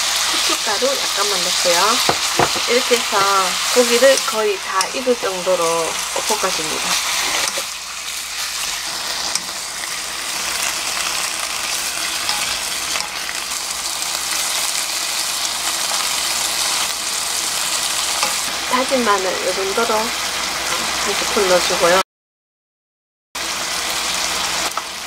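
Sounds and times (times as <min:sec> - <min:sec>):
meat sizzling in a wok: 0:00.0 - 0:22.0, 0:23.4 - 0:25.0.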